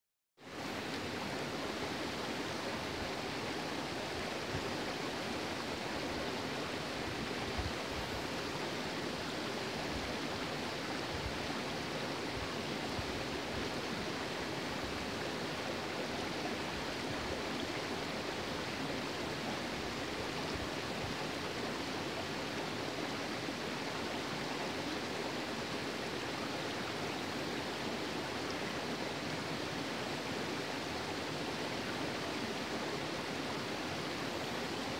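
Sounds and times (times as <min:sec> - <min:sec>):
stream running over rocks: 0:00.4 - 0:34.9.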